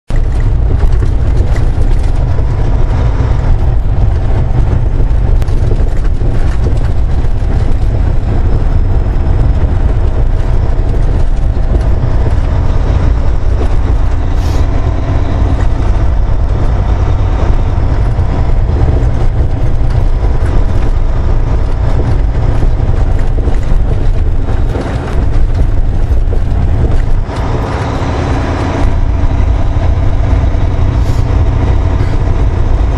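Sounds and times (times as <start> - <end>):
truck engine and road rumble: 0.0 - 32.9.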